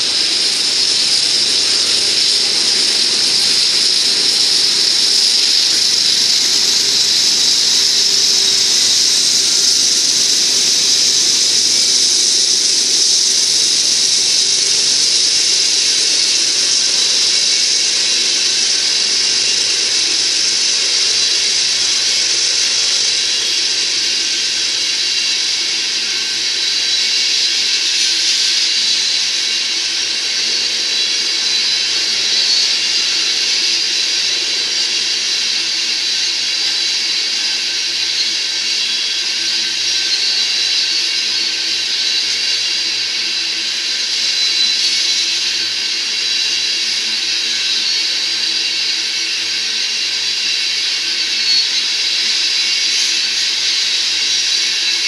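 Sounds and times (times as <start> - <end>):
train wheels hissing on rail: 0.0 - 50.4.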